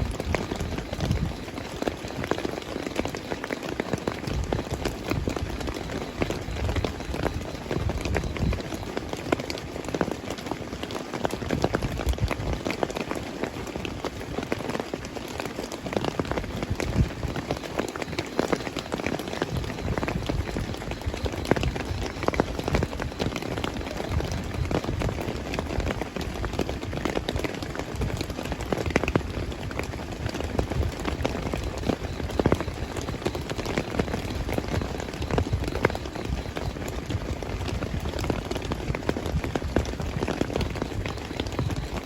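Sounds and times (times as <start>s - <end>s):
heavy rain pattering: 0.0s - 42.0s.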